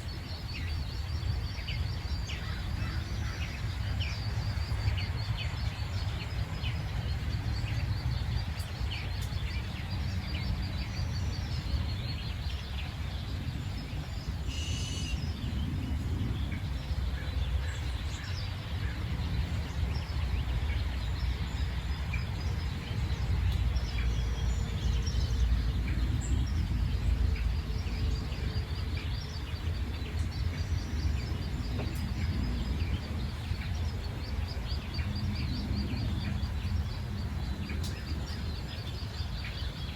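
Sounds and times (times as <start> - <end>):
birds chirping and singing: 0.0 - 39.9
steady low rumble: 0.0 - 39.9.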